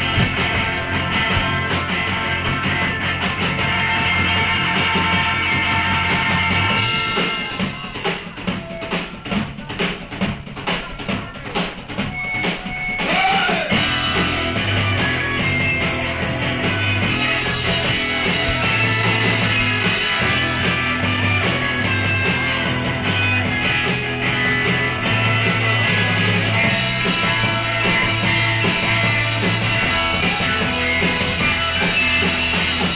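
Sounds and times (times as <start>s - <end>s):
drum hits: 0.0s - 32.9s
live rock band playing: 0.0s - 32.9s.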